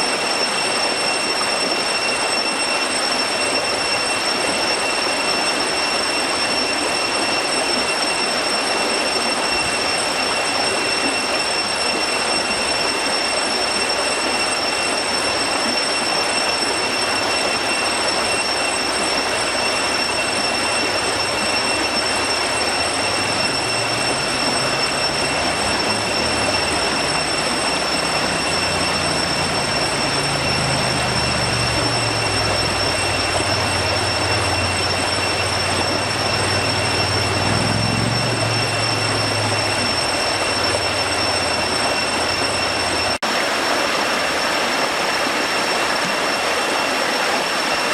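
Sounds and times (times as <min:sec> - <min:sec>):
faint high tones: 0:00.0 - 0:43.2
waterfall roaring: 0:08.1 - 0:47.9.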